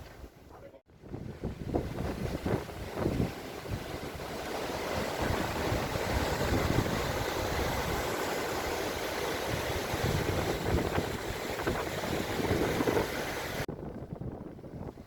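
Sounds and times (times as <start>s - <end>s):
sea and ship noise: 0.0s - 15.0s
wind on microphone: 0.0s - 15.0s.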